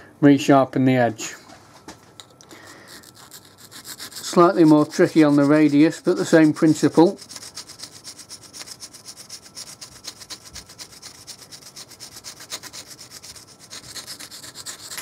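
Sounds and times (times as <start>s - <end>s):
sharpening stone rubbing on metal: 2.6s - 15.0s.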